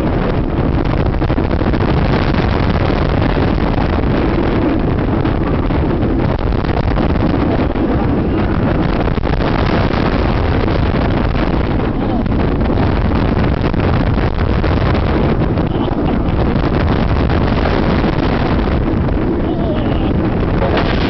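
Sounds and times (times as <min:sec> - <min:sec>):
roller coaster running roar: 0:00.0 - 0:21.0
wind rushing over microphone: 0:00.0 - 0:21.0.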